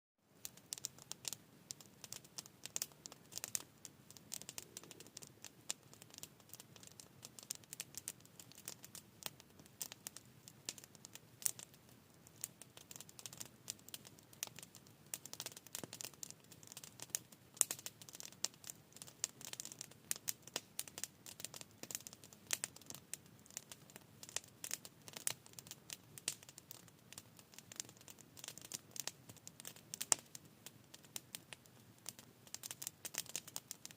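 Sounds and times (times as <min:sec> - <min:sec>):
campfire crackling and popping: 0:00.4 - 0:33.9.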